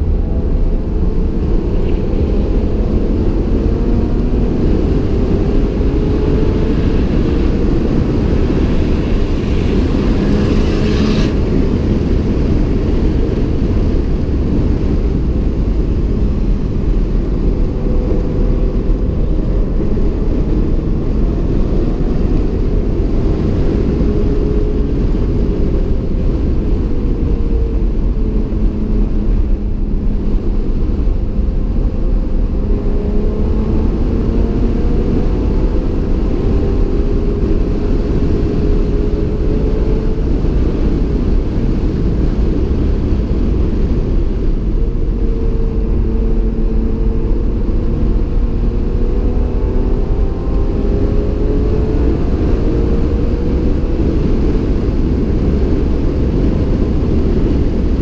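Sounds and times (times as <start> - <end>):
car engine revving: 0.0 - 58.0
road and tyre rumble: 0.0 - 58.0.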